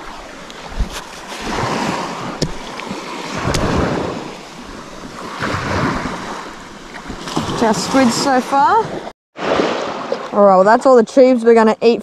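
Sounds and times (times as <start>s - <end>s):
wind on microphone: 0.0s - 9.6s
waves washing onto beach: 0.0s - 10.4s.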